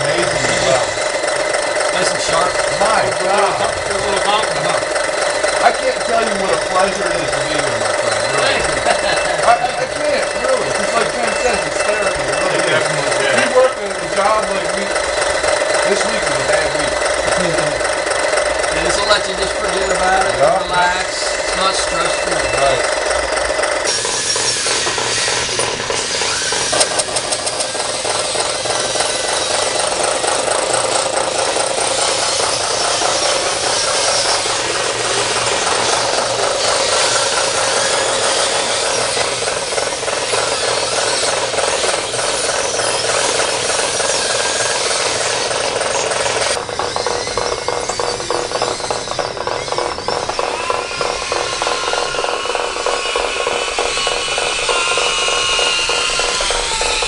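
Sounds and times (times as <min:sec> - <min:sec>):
mechanical whir with rattle: 0:00.0 - 0:57.0.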